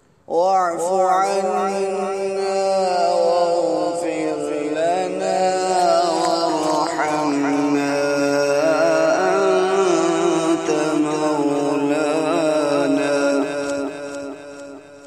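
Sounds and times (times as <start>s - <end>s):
man chanting melodically: 0.2s - 15.0s.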